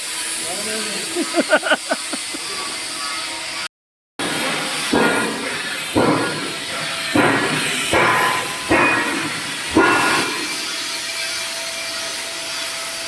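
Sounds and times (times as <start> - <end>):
welding arc hissing and crackling: 0.0 - 13.0.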